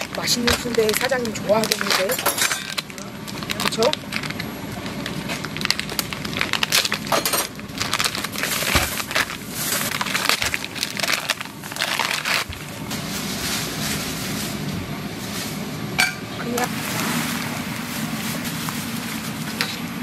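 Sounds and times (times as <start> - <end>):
food packaging crinkling and tearing: 0.0 - 15.6, 16.7 - 20.0.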